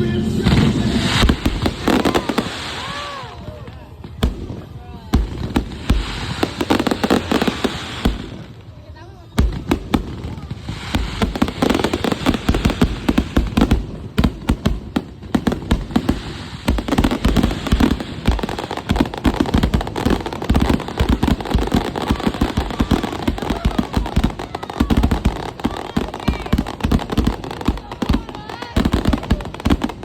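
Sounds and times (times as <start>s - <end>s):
fireworks barrage bangs and crackles: 0.2s - 30.0s.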